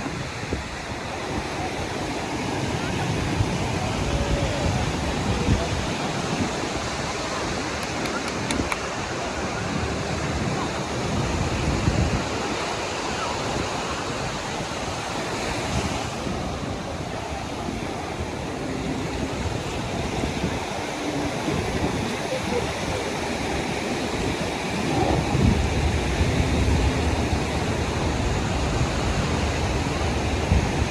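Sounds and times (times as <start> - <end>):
sea surf washing on beach: 0.0 - 30.9
wind gusting on microphone: 0.0 - 30.9.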